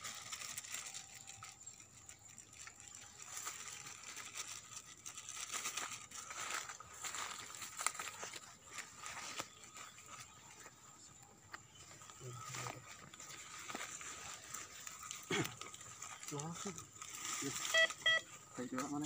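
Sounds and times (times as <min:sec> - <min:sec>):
dry leaves rustling and crackling: 0:00.0 - 0:19.0.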